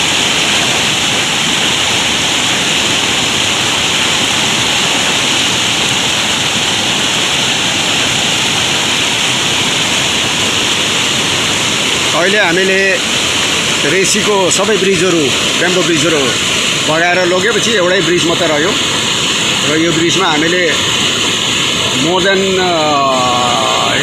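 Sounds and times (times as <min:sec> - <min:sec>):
river rushing in flood: 0:00.0 - 0:24.0.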